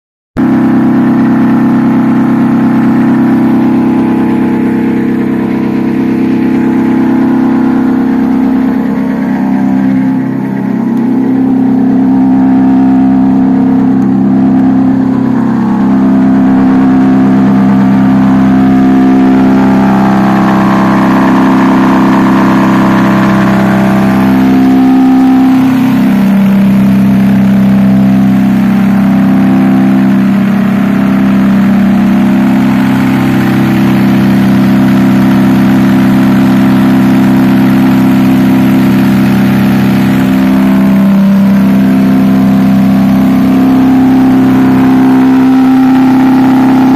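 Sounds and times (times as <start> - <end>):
tractor diesel engine running: 0.4 - 46.9.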